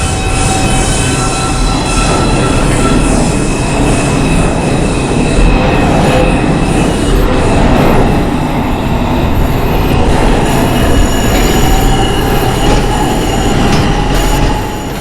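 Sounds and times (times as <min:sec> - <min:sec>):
high-pitched wheel squeal: 0:00.0 - 0:15.0
subway train rumbling: 0:00.0 - 0:15.0.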